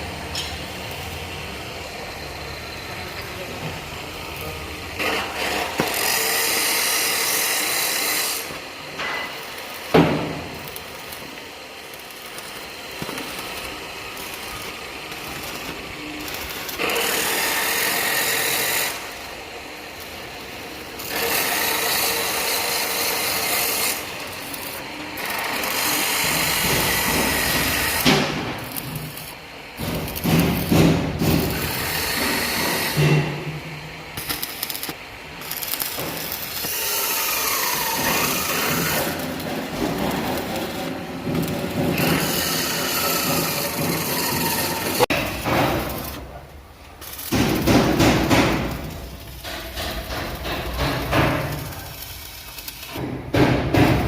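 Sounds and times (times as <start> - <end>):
power tool whining: 1.9 - 46.2.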